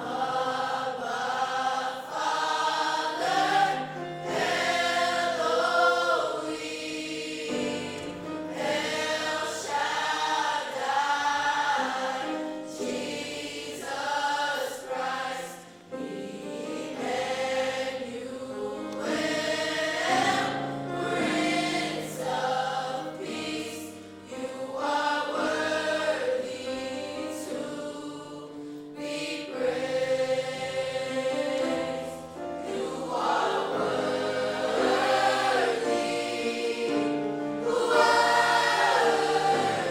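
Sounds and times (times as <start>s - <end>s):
gospel choir singing: 0.0s - 39.9s.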